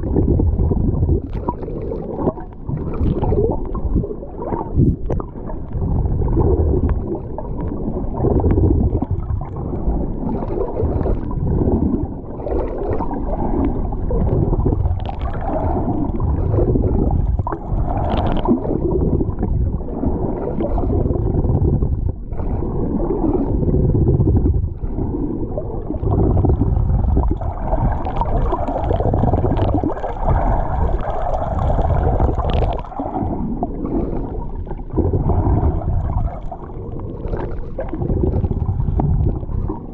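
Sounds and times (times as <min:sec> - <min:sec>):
muffled water sloshing: 0:00.0 - 0:39.9.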